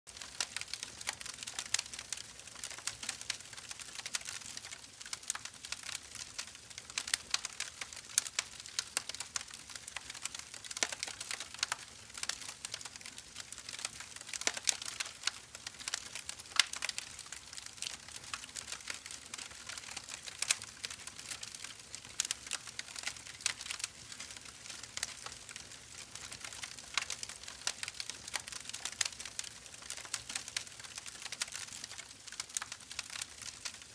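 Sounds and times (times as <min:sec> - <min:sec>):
wood fire crackling: 0:00.1 - 0:33.9.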